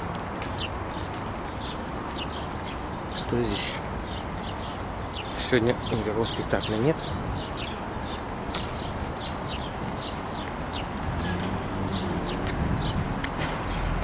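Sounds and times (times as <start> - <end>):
low background noise: 0.0 - 14.0
small birds chirping: 0.0 - 14.0.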